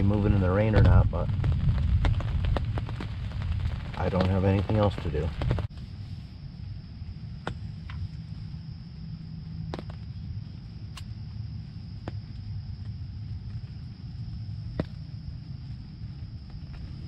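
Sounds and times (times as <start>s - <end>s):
high insect drone: 0.0s - 17.0s
low steady rumble: 0.0s - 17.0s.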